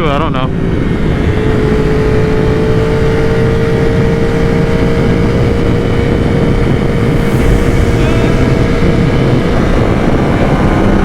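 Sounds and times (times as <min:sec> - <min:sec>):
motorcycle engine cruising: 0:00.0 - 0:11.0
wind rumble on microphone: 0:00.0 - 0:11.0.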